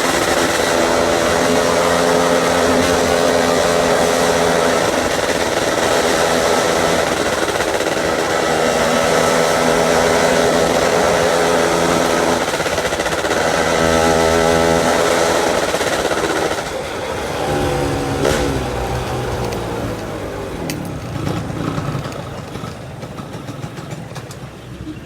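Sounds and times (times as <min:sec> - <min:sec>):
two-stroke motorcycle engine revving: 0:00.0 - 0:24.4.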